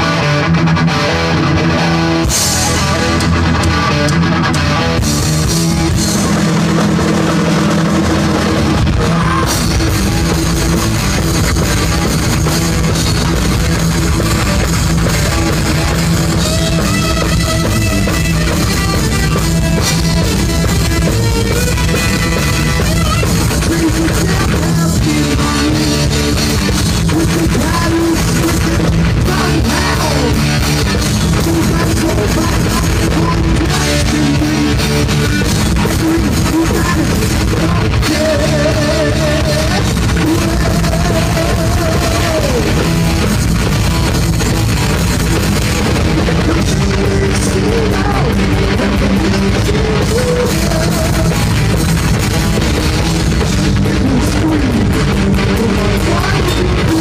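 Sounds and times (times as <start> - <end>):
heavy metal band playing: 0.0 - 57.0
higher melodic guitar line: 0.0 - 57.0.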